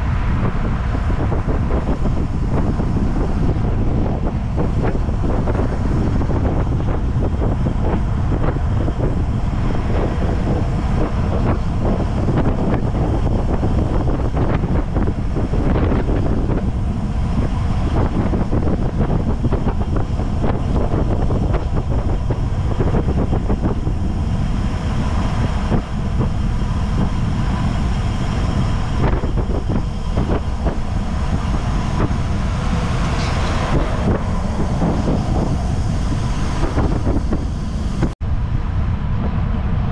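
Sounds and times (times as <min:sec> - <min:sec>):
heavy wind rumbling on microphone: 0:00.0 - 0:39.9.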